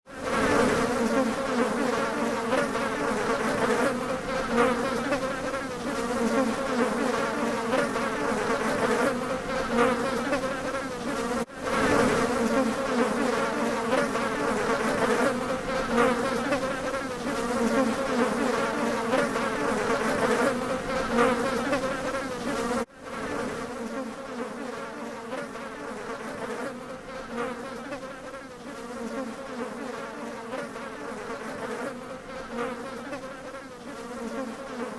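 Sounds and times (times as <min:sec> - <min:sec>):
bees buzzing: 0:00.2 - 0:34.9.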